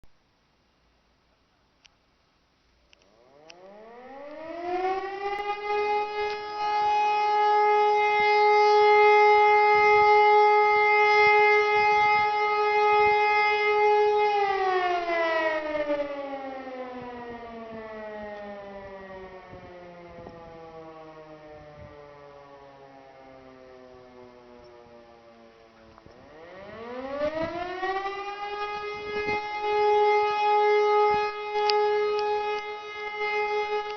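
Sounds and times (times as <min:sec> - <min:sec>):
electric motor siren: 0:03.0 - 0:33.9.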